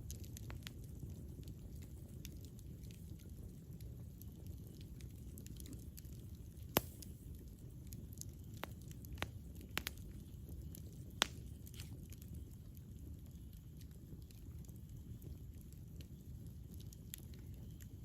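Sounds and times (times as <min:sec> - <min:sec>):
campfire burning: 0:00.0 - 0:18.0
wood crackling and popping: 0:00.0 - 0:18.0.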